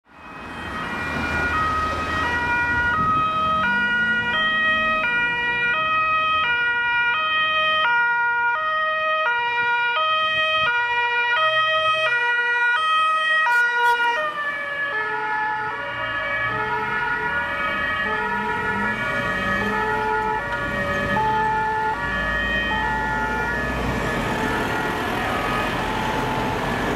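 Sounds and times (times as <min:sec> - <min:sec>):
road traffic: 0:00.0 - 0:26.9
two-tone emergency siren: 0:00.0 - 0:26.9.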